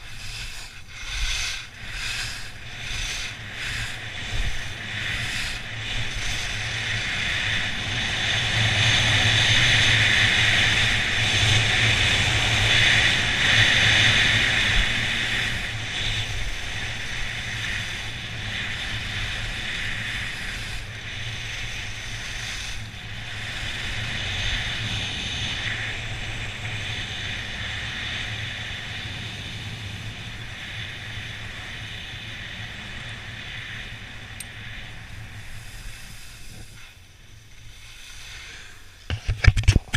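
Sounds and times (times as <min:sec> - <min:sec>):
skis scraping over snow: 0:00.0 - 0:28.4, 0:29.0 - 0:39.9
wind on microphone: 0:00.0 - 0:39.9.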